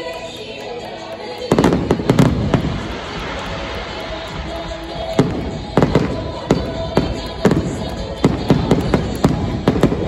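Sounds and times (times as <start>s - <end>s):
fireworks bangs and crackles: 0.1s - 10.0s.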